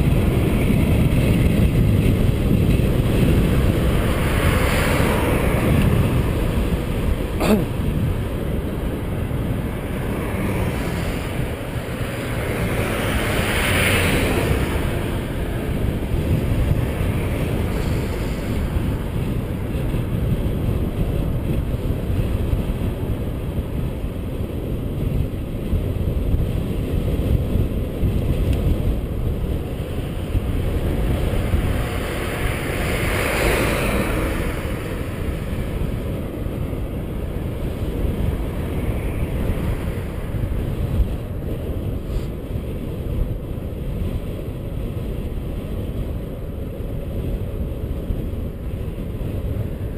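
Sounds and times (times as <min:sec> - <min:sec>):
passing car tyre whoosh: 0:00.0 - 0:49.9
wind rushing over microphone: 0:00.0 - 0:49.9.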